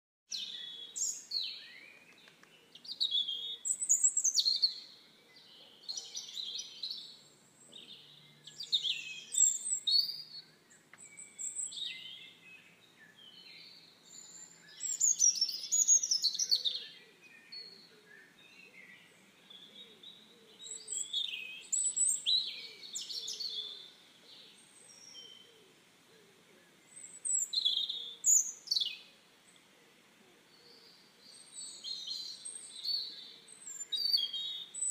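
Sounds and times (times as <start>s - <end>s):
birds chirping: 0.3s - 34.9s.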